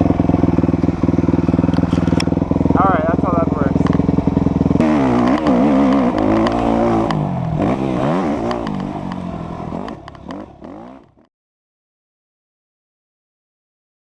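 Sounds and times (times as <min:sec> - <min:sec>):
dirt bike engine revving: 0:00.0 - 0:11.3.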